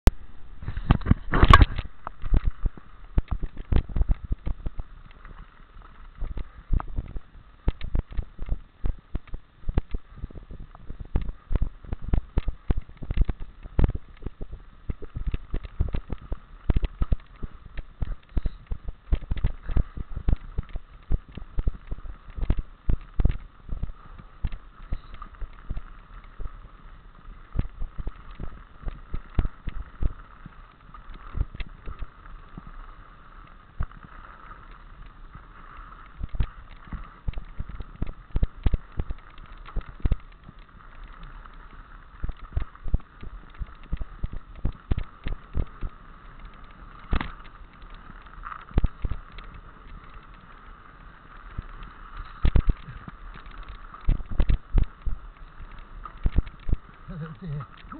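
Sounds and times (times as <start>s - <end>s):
wind: 0.0s - 57.9s.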